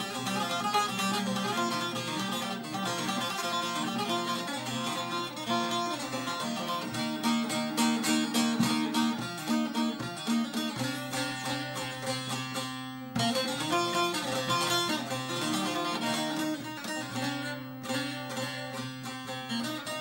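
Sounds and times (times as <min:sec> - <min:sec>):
plucked lute melody: 0:00.0 - 0:20.0.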